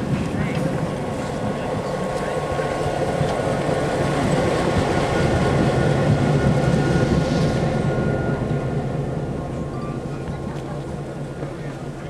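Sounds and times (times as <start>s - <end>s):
diesel locomotive passing: 0.0s - 12.0s.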